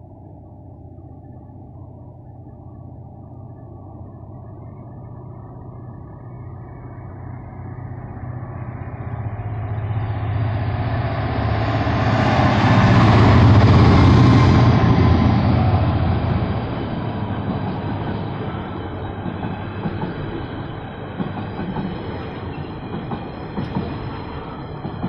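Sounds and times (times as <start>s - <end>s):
diesel locomotive engine rumble: 0.0s - 25.0s
train wheel and rail noise: 0.0s - 25.0s.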